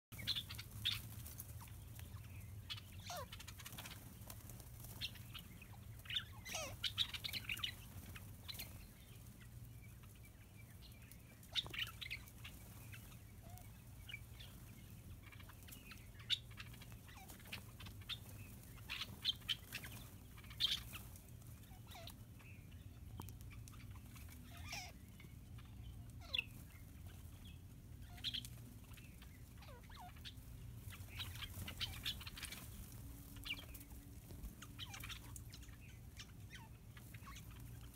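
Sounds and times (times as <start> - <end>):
birds chirping: 0.1 - 37.9.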